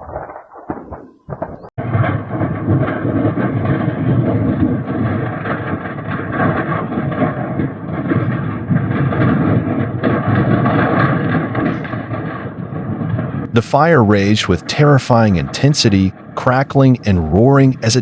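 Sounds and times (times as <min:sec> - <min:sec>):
fire roaring and crackling: 0:00.0 - 0:18.0.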